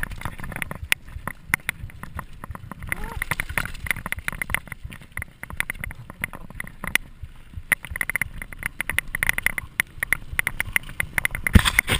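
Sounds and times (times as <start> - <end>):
bicycle rattling on gravel: 0.0 - 11.9.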